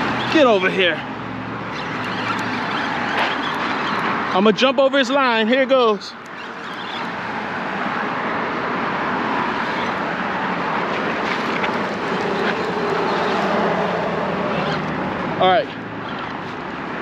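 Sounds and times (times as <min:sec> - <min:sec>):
road traffic tyre and engine noise: 0:00.0 - 0:17.0.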